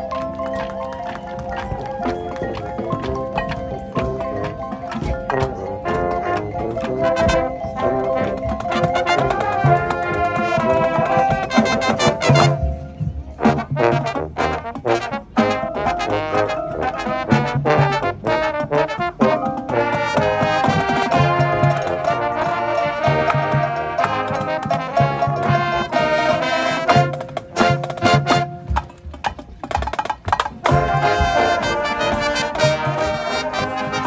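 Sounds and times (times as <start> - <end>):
marching band brass playing: 0.0 - 34.0.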